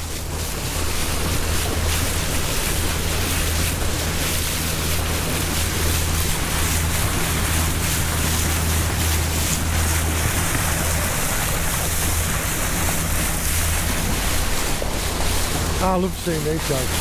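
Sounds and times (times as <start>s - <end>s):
boat engine running: 0.0s - 17.0s
water rushing along hull: 0.0s - 17.0s
wind on microphone: 0.0s - 17.0s.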